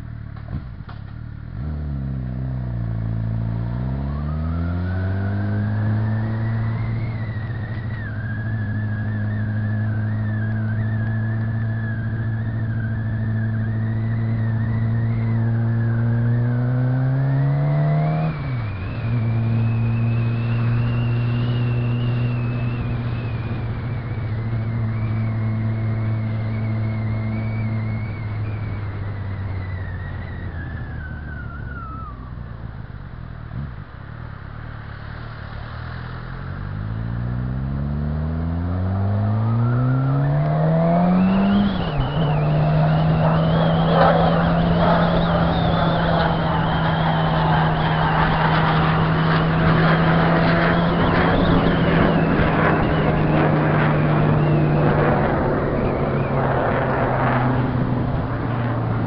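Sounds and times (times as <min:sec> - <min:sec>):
motorcycle engine revving: 0:00.6 - 0:32.6, 0:36.2 - 0:59.0.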